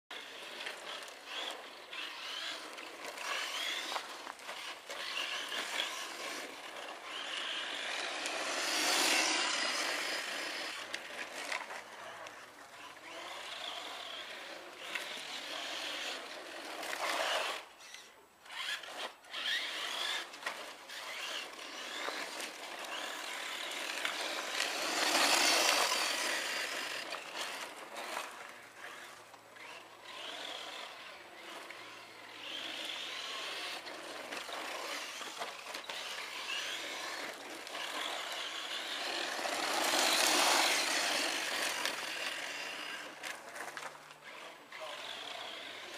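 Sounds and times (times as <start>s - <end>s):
rc truck motor whine: 0.1s - 45.9s.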